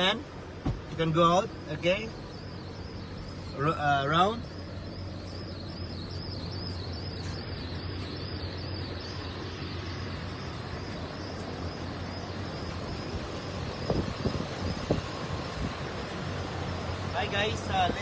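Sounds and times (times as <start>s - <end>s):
low hum: 0.0s - 18.0s
faint high warbling chirp: 1.0s - 18.0s.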